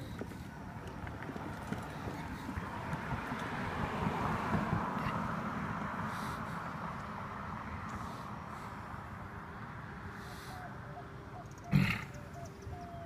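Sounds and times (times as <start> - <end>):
outdoor noise: 0.0 - 13.0.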